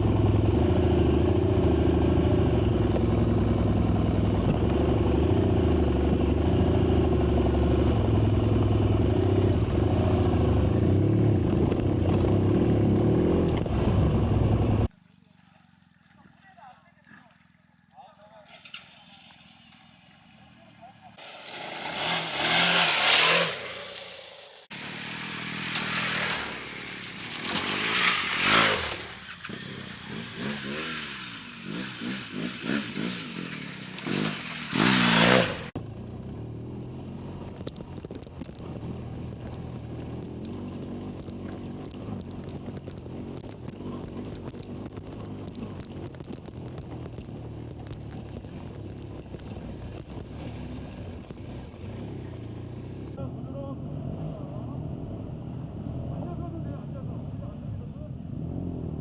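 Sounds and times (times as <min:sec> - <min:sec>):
motorcycle engine revving: 0:00.0 - 0:14.9, 0:18.5 - 0:59.0.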